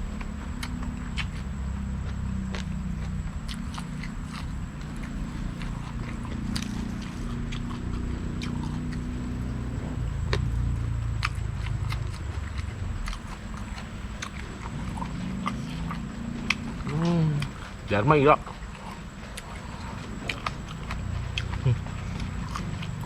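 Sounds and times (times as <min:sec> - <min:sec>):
low rumble: 0:00.0 - 0:23.0
person chewing crunchy food: 0:00.0 - 0:23.0.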